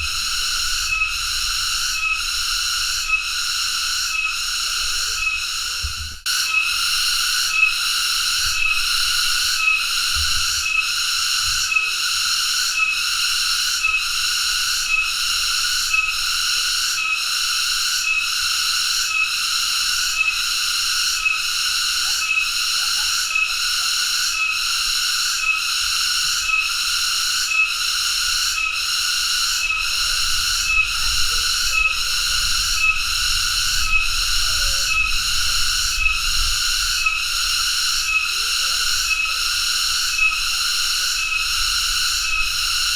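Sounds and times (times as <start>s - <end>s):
cicada buzzing: 0.0s - 42.9s.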